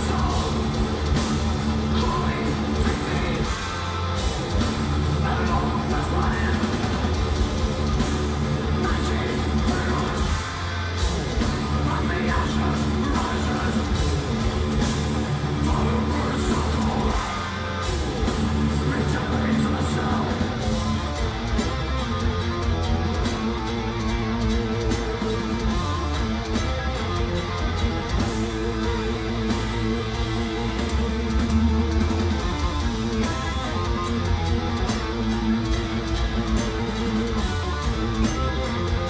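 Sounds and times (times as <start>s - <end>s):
guitar riff: 0.0s - 39.0s
metal band playing live: 0.0s - 39.0s.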